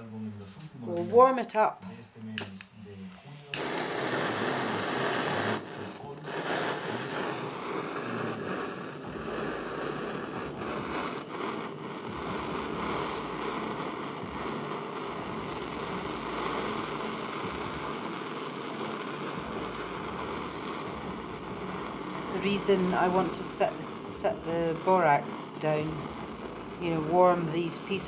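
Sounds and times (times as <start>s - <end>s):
gas torch flame rushing: 2.4s - 28.0s.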